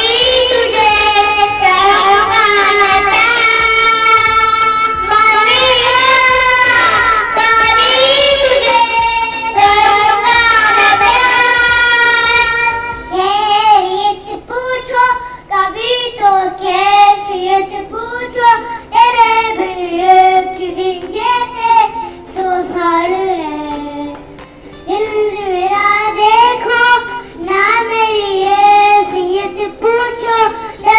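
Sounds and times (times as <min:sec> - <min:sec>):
child singing: 0:00.0 - 0:24.2, 0:24.9 - 0:30.9
music: 0:00.0 - 0:30.9.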